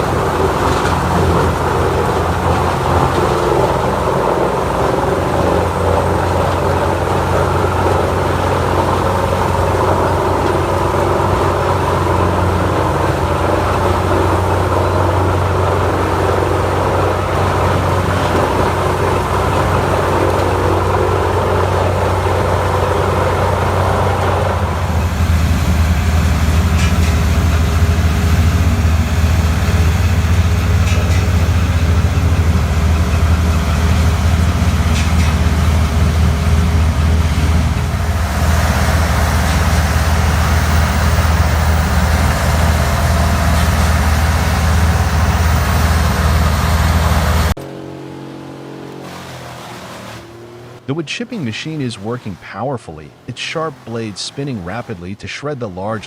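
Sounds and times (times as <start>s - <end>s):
wood chipper grinding: 0.0s - 47.8s
wood chipper engine drone: 0.0s - 51.8s.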